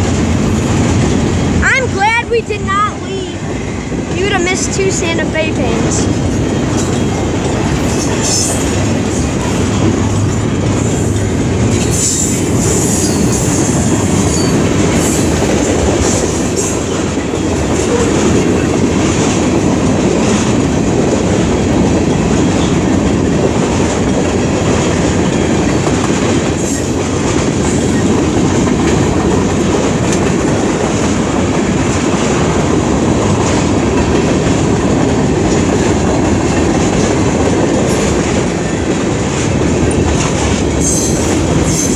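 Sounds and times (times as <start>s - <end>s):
train wheel clatter: 0.0s - 2.5s, 3.1s - 41.9s
freight train rumbling: 0.0s - 41.9s.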